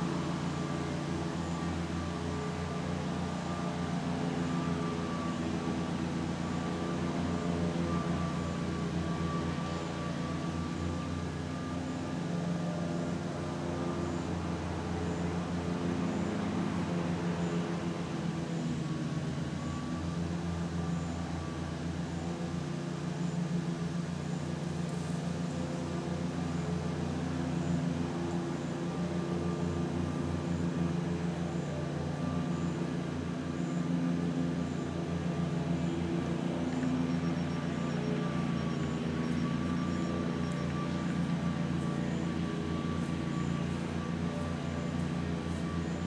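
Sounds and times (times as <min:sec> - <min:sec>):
machine droning: 0:00.0 - 0:46.0.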